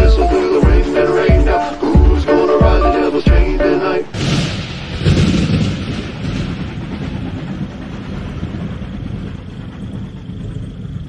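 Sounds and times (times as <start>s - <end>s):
train rumbling along tracks: 0.0s - 11.0s.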